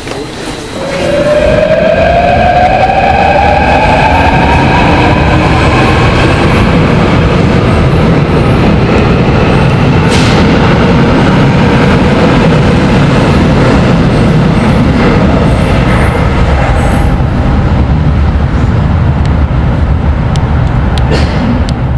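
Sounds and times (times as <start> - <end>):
train wheels rumbling on track: 0.0 - 21.9.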